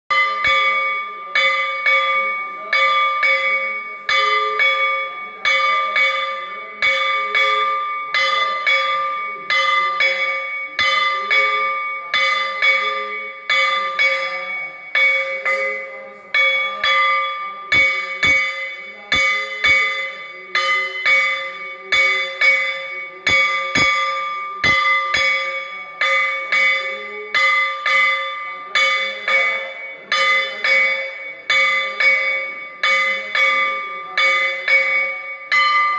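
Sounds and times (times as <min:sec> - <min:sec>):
temple bell ringing: 0:00.1 - 0:35.9.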